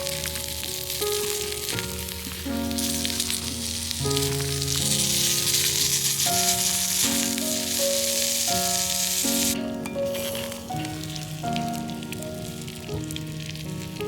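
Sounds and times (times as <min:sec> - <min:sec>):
food sizzling over fire: 0:00.0 - 0:14.0
music with held notes: 0:00.0 - 0:14.0.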